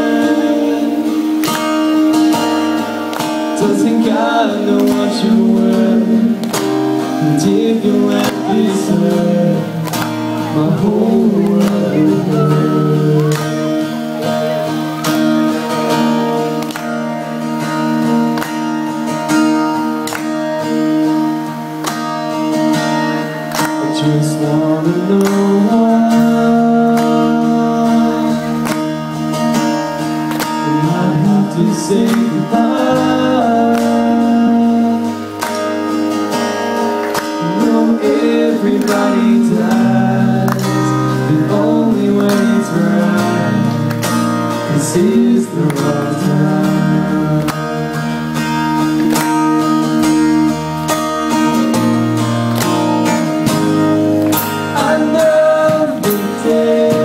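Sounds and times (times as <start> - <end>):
person singing: 0.0 - 18.0, 22.8 - 29.4, 30.5 - 35.6, 37.3 - 50.1, 53.0 - 57.0
acoustic guitar strumming: 0.0 - 57.0
electric guitar: 0.0 - 57.0.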